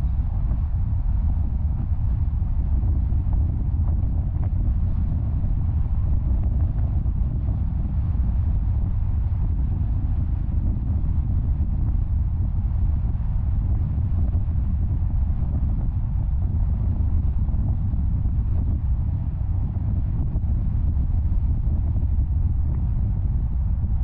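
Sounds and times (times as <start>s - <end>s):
wind noise: 0.0s - 24.0s.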